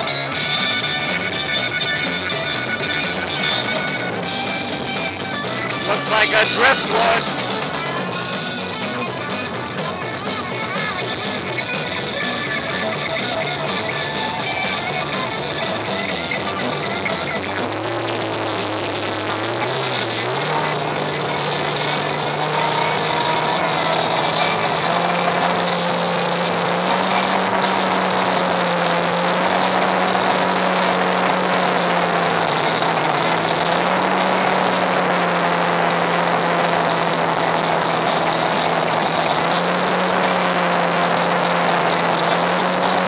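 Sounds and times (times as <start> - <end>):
boat motor drone: 0.0 - 43.0.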